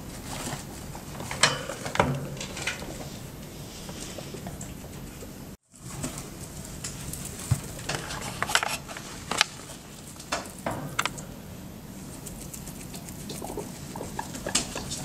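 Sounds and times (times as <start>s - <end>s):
guinea pig chewing hay: 0.0s - 1.5s, 2.4s - 15.0s.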